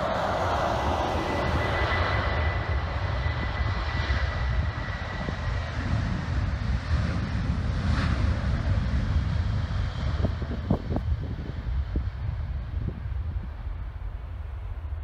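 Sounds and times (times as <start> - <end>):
jet engine high whine: 0.0 - 15.0
jet engines rumbling: 0.0 - 15.0.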